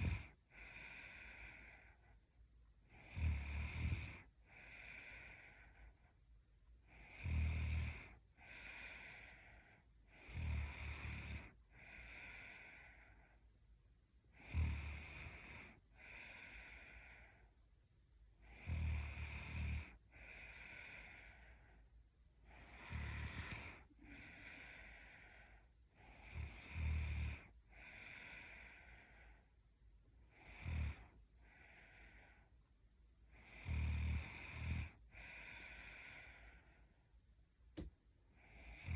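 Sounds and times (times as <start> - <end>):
woman snoring: 0.0 - 2.0, 2.9 - 6.0, 6.9 - 13.4, 14.3 - 17.4, 18.4 - 21.8, 22.4 - 29.4, 30.3 - 32.5, 33.3 - 36.8, 37.8 - 38.9
soft breathy sound: 0.0 - 38.9.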